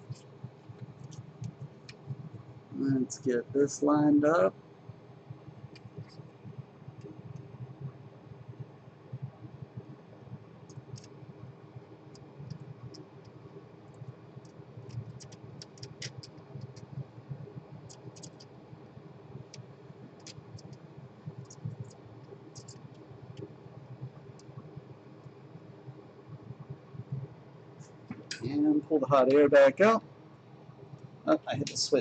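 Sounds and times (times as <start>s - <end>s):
flux crackling under soldering iron: 0.0s - 30.0s
low steady hum: 0.0s - 32.0s.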